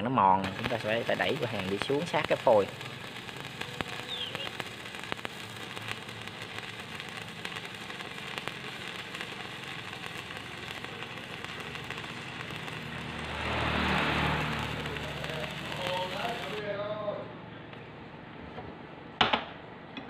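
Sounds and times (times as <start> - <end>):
welding arc crackling: 0.0 - 16.9
sharp welding pops: 0.3 - 16.7.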